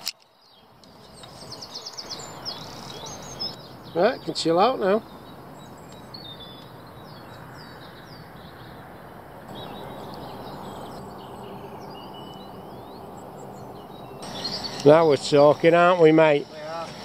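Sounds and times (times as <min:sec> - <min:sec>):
outdoor background hiss: 0:00.0 - 0:17.0
small birds chirping: 0:00.0 - 0:17.0.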